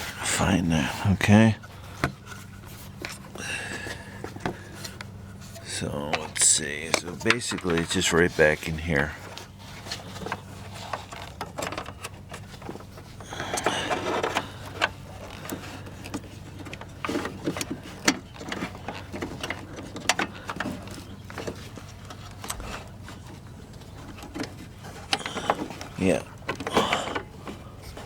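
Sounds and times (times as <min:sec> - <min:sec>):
hands fumbling with plastic parts: 0:00.0 - 0:28.0
steady low hum: 0:00.0 - 0:28.0.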